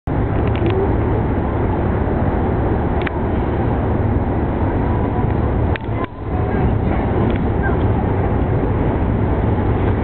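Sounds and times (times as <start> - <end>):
low motor rumble: 0.0 - 10.0.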